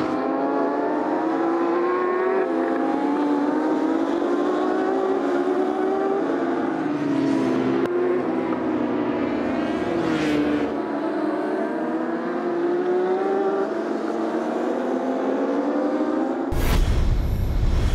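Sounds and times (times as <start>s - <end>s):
motorbike engines racing: 0.0s - 16.5s.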